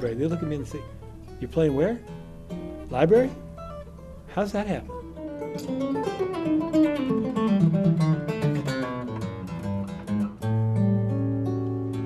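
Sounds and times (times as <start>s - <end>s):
acoustic guitar plucked notes: 0.0s - 12.0s
guitar chord ringing: 0.0s - 12.0s.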